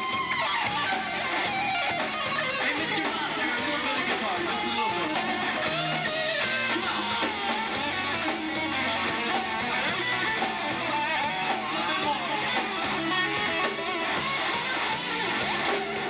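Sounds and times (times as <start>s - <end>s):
bass: 0.0s - 16.0s
distorted electric guitar: 0.0s - 16.0s
drums: 0.0s - 16.0s.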